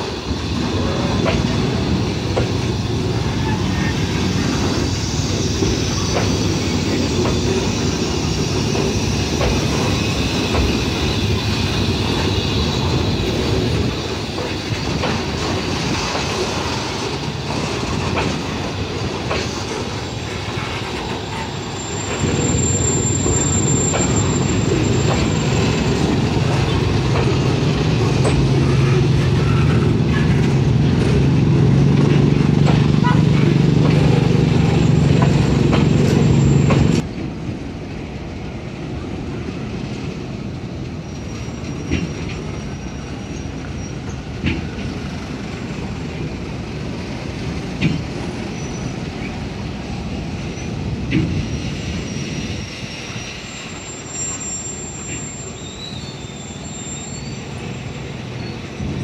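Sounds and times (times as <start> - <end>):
high wheel squeal: 0.0 - 31.8, 32.4 - 37.0, 41.0 - 44.5, 48.2 - 49.4, 50.2 - 59.0.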